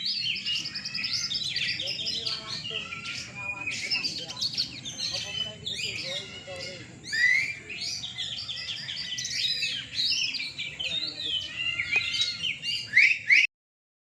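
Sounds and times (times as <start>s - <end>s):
birds singing whistles and chirps: 0.0s - 13.5s.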